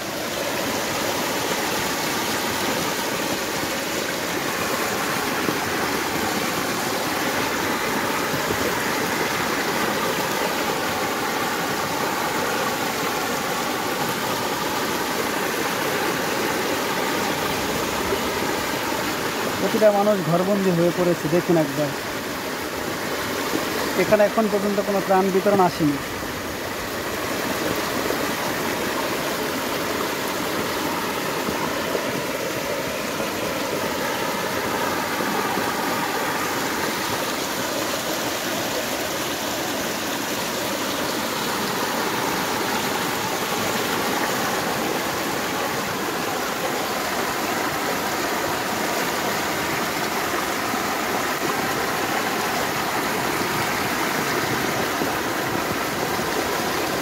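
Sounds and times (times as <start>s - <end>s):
floodwater rushing: 0.0s - 57.0s.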